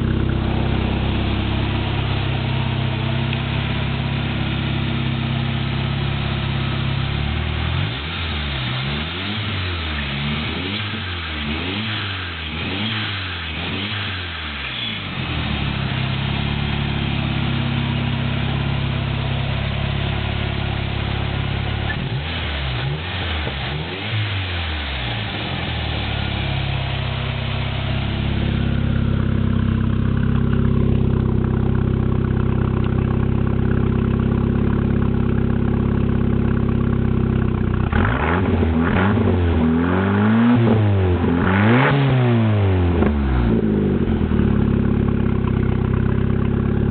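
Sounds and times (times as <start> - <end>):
engine revving and idling: 0.0 - 46.9.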